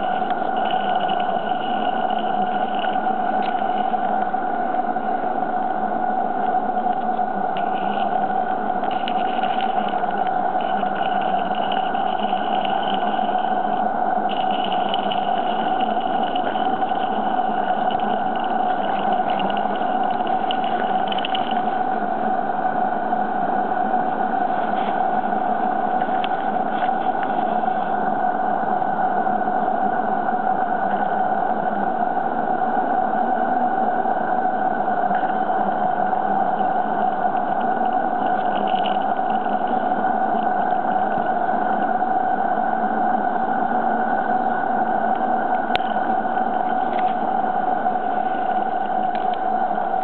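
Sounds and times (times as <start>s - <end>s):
constant hum: 0.0s - 50.0s.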